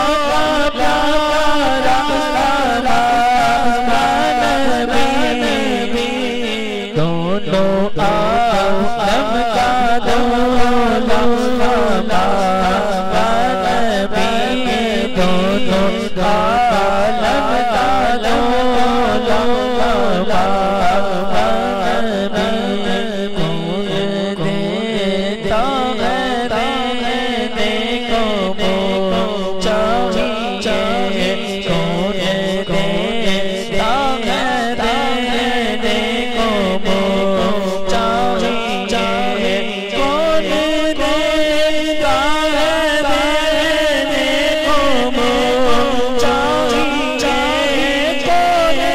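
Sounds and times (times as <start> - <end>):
man singing devotional melody: 0.0 - 48.9.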